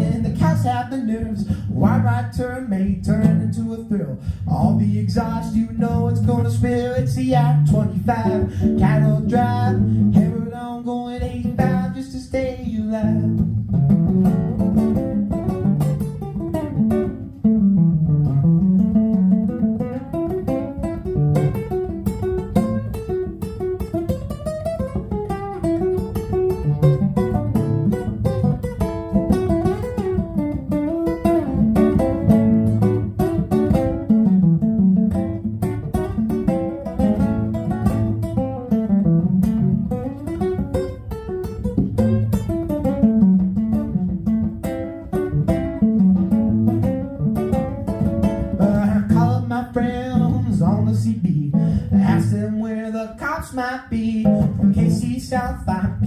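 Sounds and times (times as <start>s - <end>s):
walking bass line: 0.0s - 52.6s
acoustic guitar: 0.0s - 56.0s.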